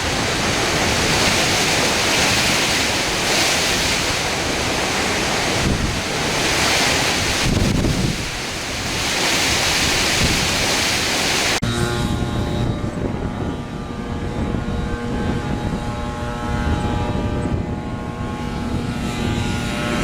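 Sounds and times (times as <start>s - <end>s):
strong wind gusts: 0.0s - 20.0s
wind buffeting microphone: 0.0s - 20.0s.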